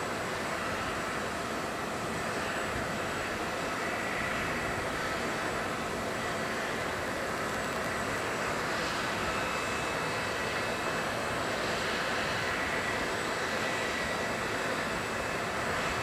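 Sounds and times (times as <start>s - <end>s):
jet aircraft rush and whine: 0.0s - 16.0s.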